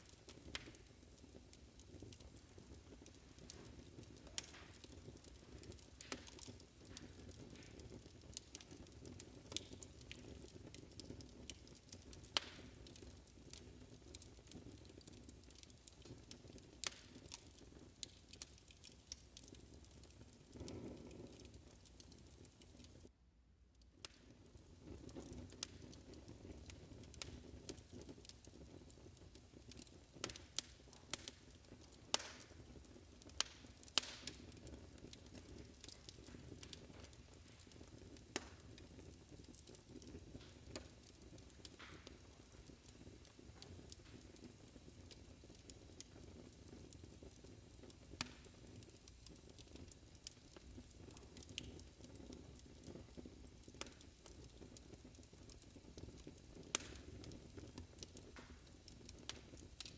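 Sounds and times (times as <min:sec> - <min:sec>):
fireplace crackling: 0:00.0 - 0:59.9.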